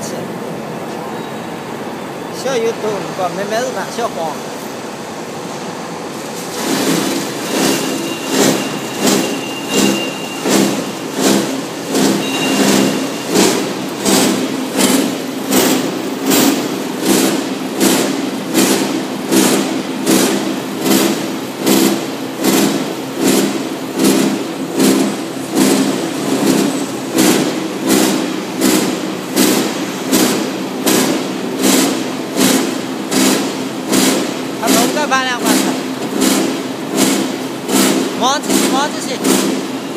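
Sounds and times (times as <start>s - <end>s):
wire granulator running: 1.6s - 39.9s
regular machine clatter: 6.2s - 39.9s.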